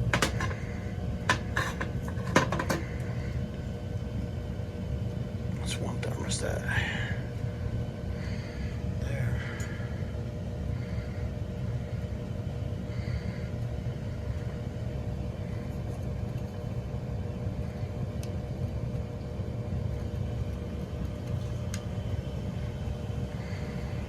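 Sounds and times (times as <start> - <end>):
boiler rumbling: 0.0 - 24.0
faint steady hum: 0.0 - 24.0.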